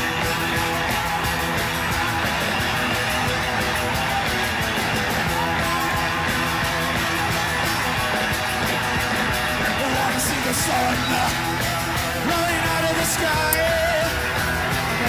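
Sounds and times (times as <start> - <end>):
live rock band playing: 0.0 - 15.0
strummed guitars: 0.0 - 15.0.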